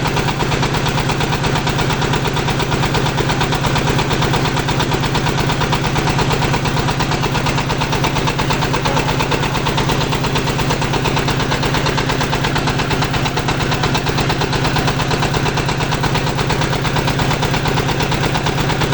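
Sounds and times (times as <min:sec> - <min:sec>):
diesel engine knocking: 0:00.0 - 0:18.9.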